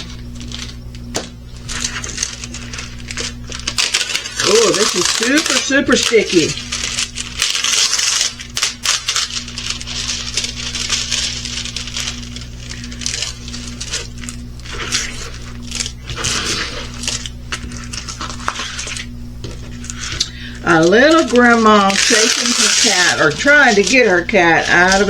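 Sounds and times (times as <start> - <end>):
plastic wrapping rustling and crinkling: 0.0 - 25.0
steady low hum: 0.0 - 25.0.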